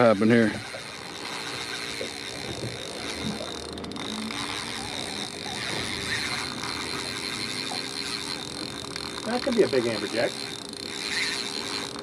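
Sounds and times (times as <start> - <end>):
fishing reel gears ticking: 0.0 - 12.0
low background hum: 0.0 - 12.0.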